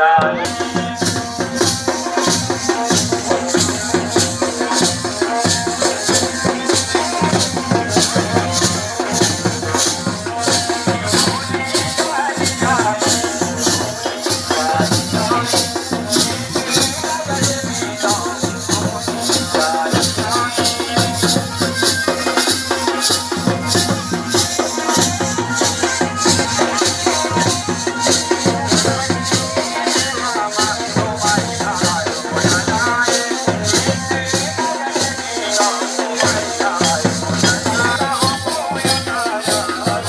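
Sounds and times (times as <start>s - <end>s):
fast crisp high strokes beat: 0.5s - 40.0s.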